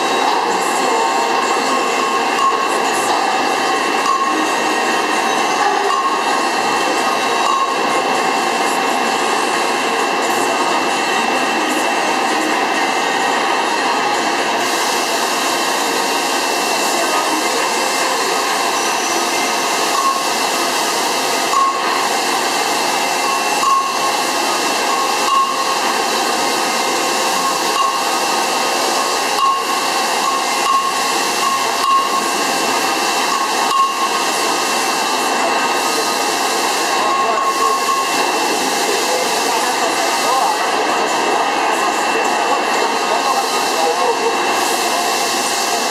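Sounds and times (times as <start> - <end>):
drill machine hissing: 0.0 - 45.9.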